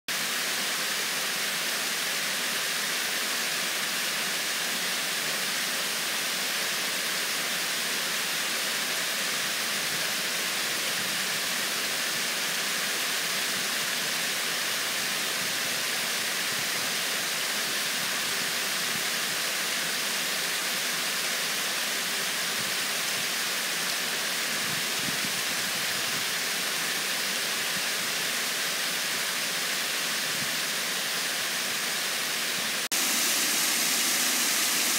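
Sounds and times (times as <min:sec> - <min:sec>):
water rushing over spillway: 0:00.1 - 0:34.9.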